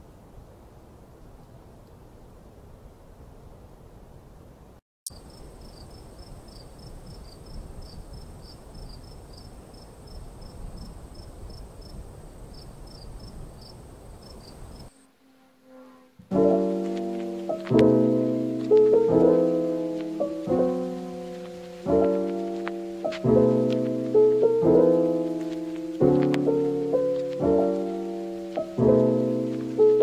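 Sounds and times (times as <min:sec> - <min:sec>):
low hiss: 0:00.0 - 0:30.0
insects chirping: 0:05.1 - 0:15.6, 0:16.4 - 0:30.0.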